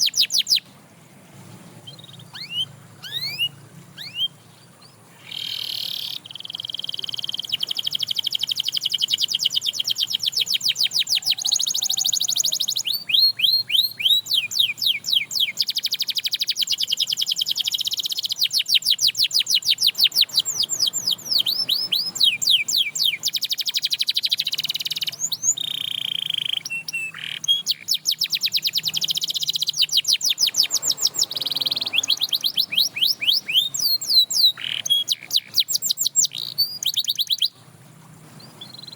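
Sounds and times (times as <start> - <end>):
canary singing: 0.0 - 0.7, 1.5 - 37.6, 38.4 - 38.9.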